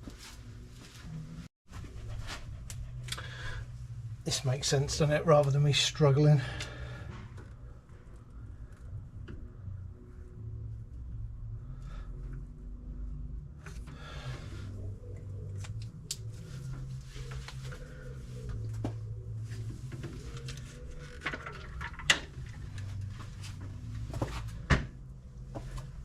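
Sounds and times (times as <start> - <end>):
steady low hum: 0.2 - 26.0.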